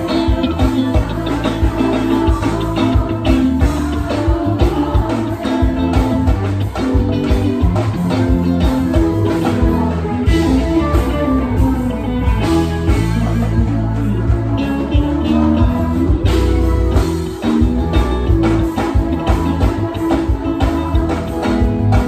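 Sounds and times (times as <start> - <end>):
bass: 0.0 - 22.0
electric guitar: 0.0 - 22.0.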